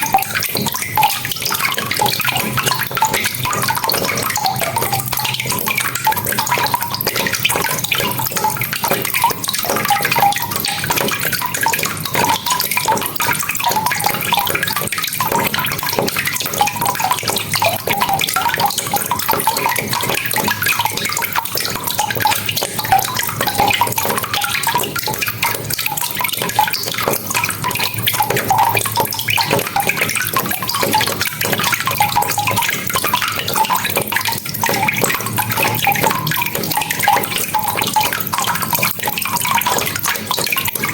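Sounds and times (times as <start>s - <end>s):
running water gurgling: 0.0s - 40.9s.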